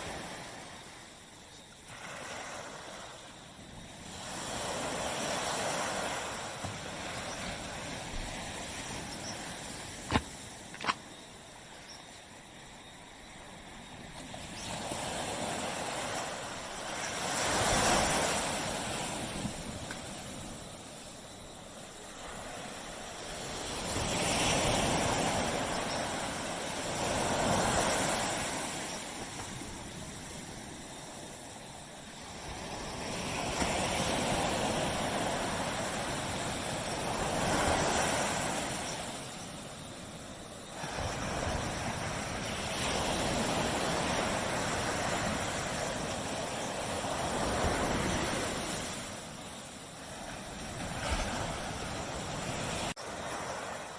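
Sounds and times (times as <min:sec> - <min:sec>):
small waves breaking on beach: 0:00.0 - 0:53.9.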